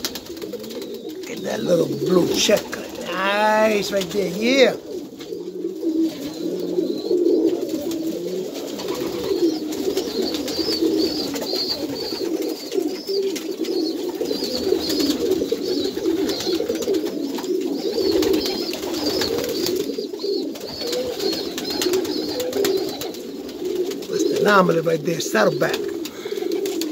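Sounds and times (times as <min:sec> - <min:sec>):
pigeons cooing: 0:00.0 - 0:26.9.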